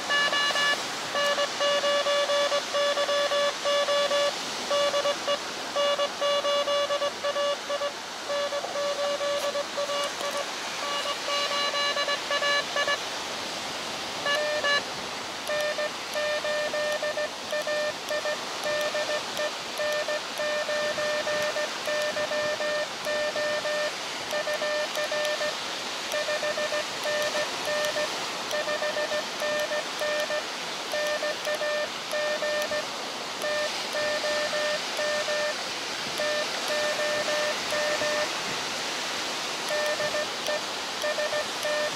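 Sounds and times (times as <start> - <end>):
morse code beeps: 0.0 - 13.0, 14.2 - 14.8, 15.4 - 35.6, 36.2 - 38.4, 39.7 - 41.9
surf and band noise hiss: 0.0 - 41.9.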